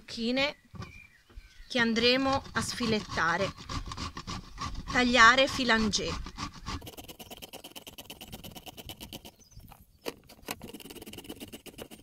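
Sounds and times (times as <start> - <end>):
vegetable rasping on mandoline blade: 2.4 - 12.0.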